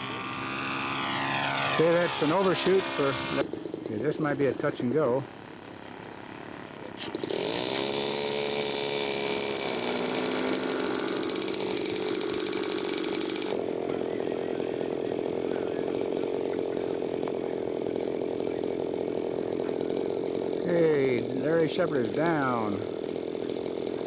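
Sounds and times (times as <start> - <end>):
model airplane engine droning: 0.0 - 24.0.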